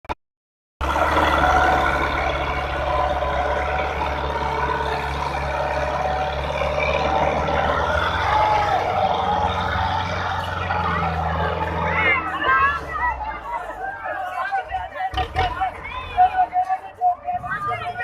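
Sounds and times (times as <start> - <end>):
tractor diesel engines running hard: 0.8 - 18.0.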